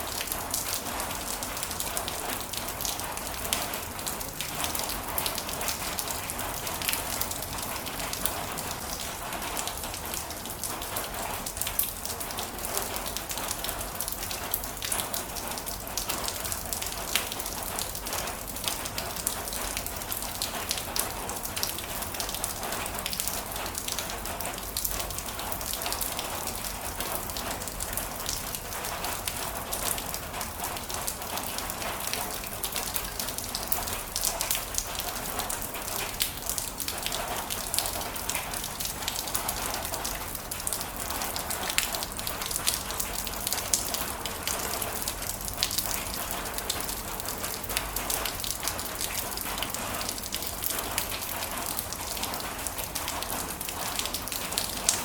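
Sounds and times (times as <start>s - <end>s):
heavy rain on a surface: 0.0s - 55.0s.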